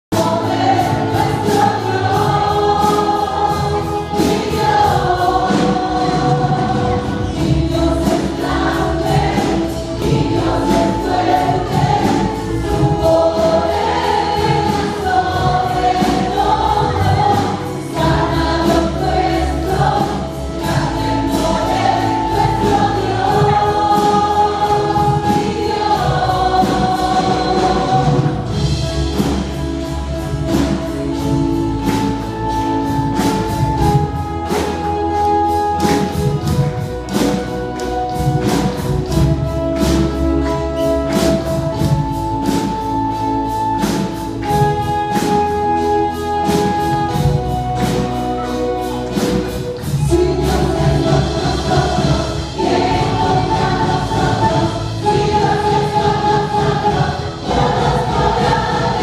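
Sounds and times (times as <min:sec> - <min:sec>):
band accompaniment with steady beat: 0:00.1 - 0:59.0
congregation singing worship song: 0:00.1 - 0:59.0.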